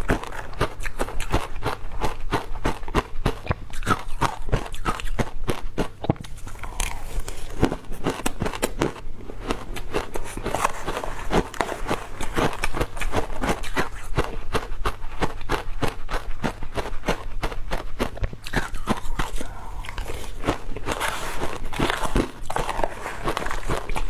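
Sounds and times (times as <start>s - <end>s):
ice being chewed: 0.0s - 24.0s.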